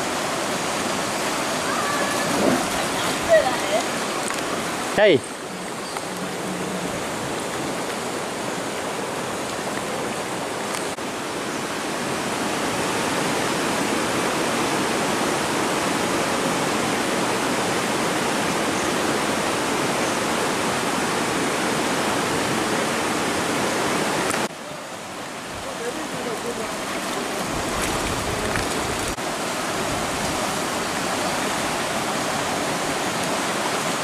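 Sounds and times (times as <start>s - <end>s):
river rapids rushing: 0.0s - 34.0s.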